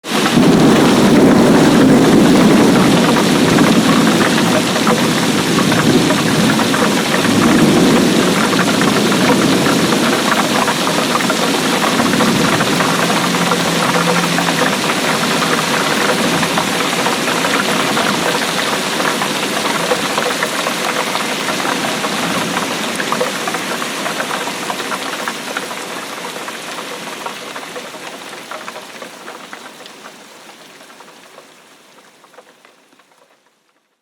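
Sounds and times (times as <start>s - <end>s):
heavy rain falling: 0.0s - 33.7s.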